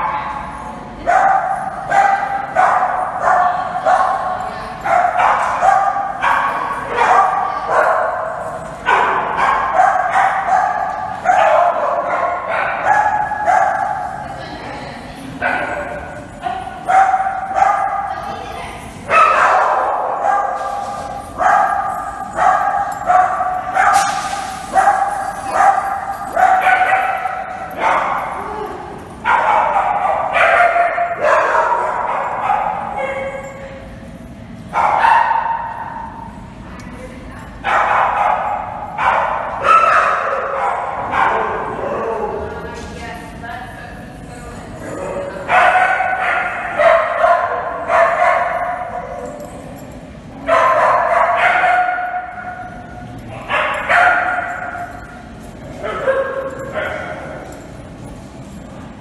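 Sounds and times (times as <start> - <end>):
dogs barking: 0.0 - 14.6, 15.2 - 33.9, 34.6 - 36.4, 37.5 - 43.2, 44.6 - 59.0.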